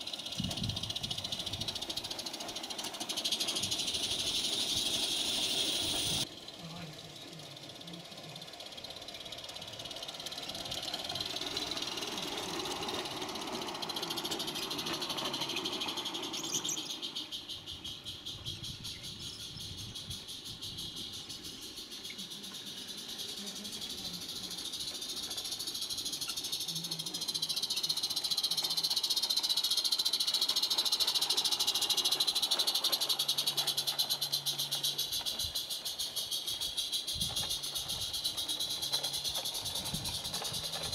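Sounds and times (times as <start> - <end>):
steam locomotive hissing and chuffing: 0.0 - 40.9.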